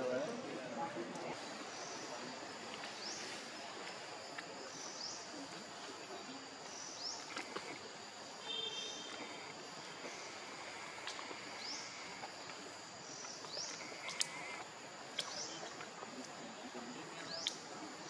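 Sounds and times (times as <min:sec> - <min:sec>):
steady hiss: 0:01.2 - 0:18.0.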